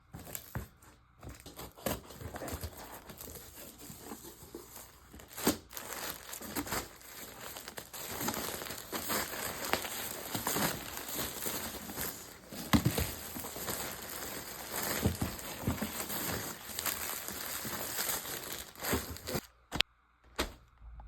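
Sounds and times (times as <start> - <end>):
plastic packaging crinkling: 1.2 - 19.5.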